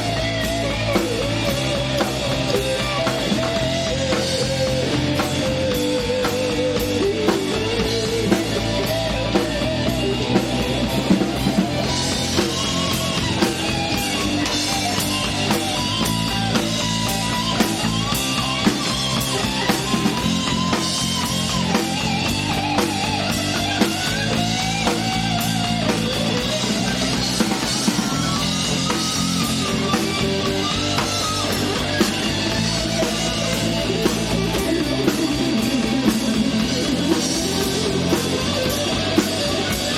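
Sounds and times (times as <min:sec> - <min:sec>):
bending lead guitar melody: 0:00.0 - 0:39.9
rock band playing: 0:00.0 - 0:39.9.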